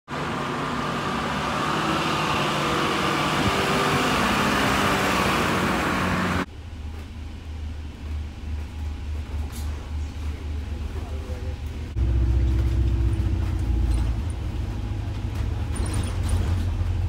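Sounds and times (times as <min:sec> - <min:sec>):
bus engine passing: 0:00.1 - 0:17.0
low pulsing bus engine rumble: 0:00.1 - 0:17.0
street traffic noise: 0:00.1 - 0:17.0.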